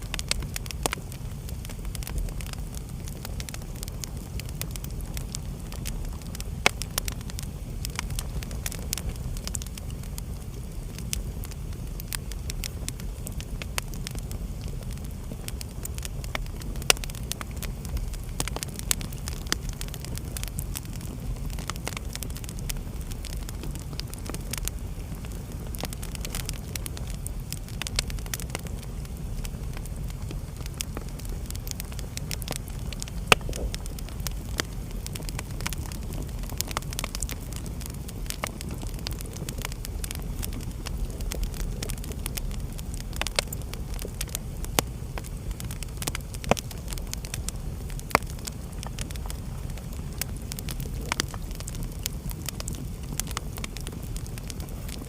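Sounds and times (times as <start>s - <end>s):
fire crackles and pops: 0.0s - 55.0s
fire flames rumbling: 0.0s - 55.0s.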